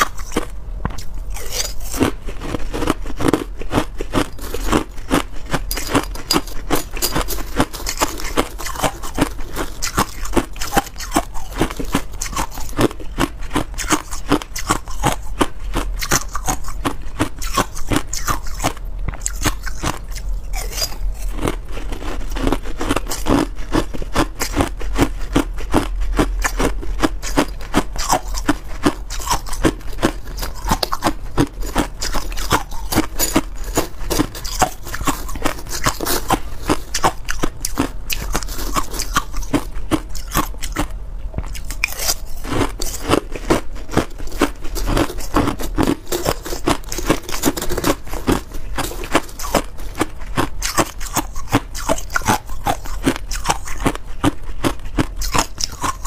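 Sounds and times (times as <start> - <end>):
crushed ice chewing crunch: 0.0 - 56.0.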